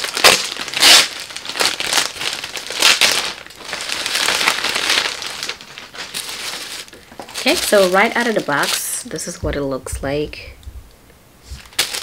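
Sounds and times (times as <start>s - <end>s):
paper wrapping rustling: 0.0s - 9.2s, 11.5s - 12.0s.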